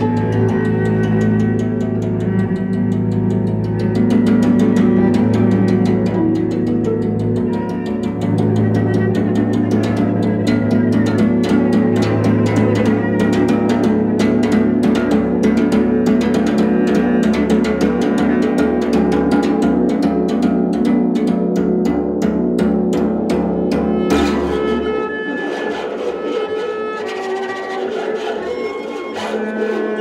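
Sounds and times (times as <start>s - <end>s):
cello bowing low drone: 0.0s - 21.0s, 23.0s - 30.0s
koto string strokes: 0.0s - 30.0s.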